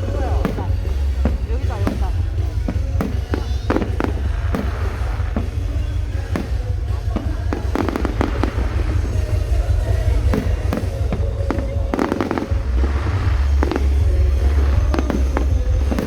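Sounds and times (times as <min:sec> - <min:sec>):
fireworks bangs and crackling: 0:00.0 - 0:16.0
heavy low rumble: 0:00.0 - 0:16.0
music: 0:00.0 - 0:16.0.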